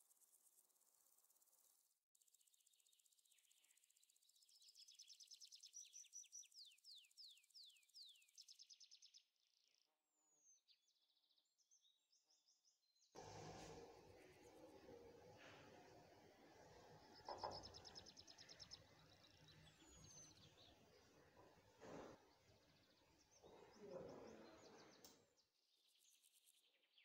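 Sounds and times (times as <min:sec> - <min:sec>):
faint bird chirping: 0:02.5 - 0:27.0.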